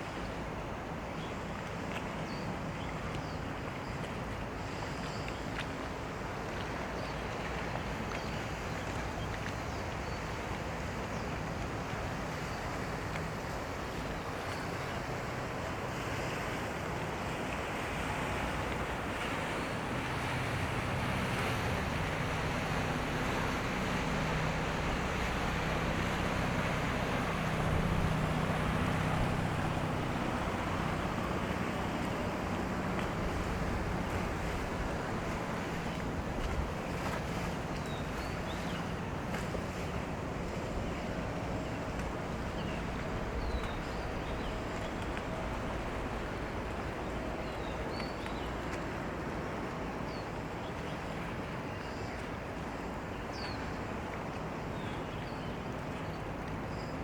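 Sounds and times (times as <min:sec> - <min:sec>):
water noise: 0:00.0 - 0:57.0
wind: 0:00.0 - 0:57.0
boat engines running: 0:03.6 - 0:57.0.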